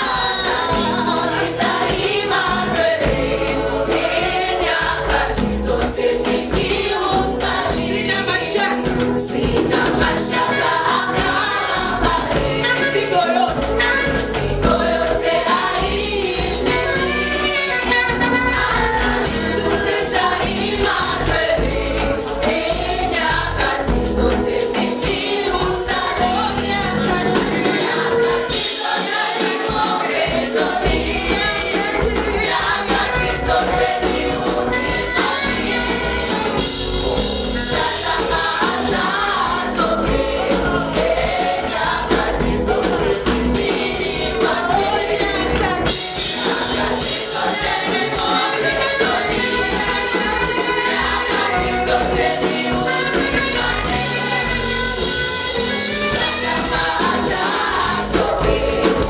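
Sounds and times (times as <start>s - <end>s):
band accompaniment: 0.0s - 59.0s
vocal group singing gospel: 0.0s - 59.0s.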